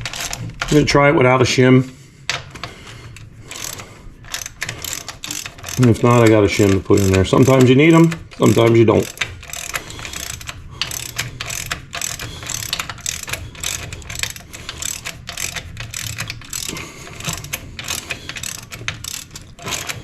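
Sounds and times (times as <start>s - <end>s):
ratchet wrench clicking: 0.0s - 0.9s, 3.5s - 20.0s.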